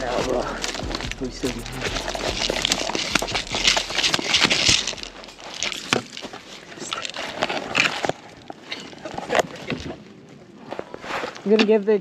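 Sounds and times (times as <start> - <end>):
leaves and twigs crunching underfoot: 0.0 - 11.9.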